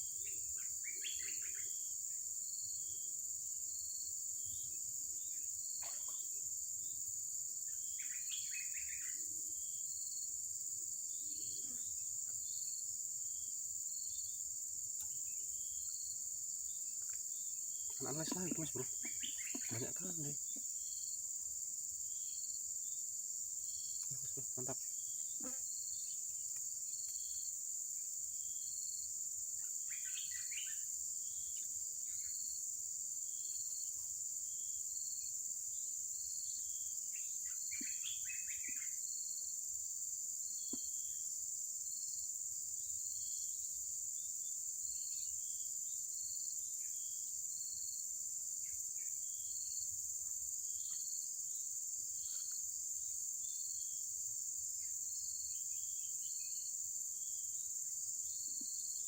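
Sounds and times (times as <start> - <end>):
higher insect calls: 0.0 - 59.0
insect chorus: 0.0 - 59.0
short insect chirp: 0.0 - 59.0.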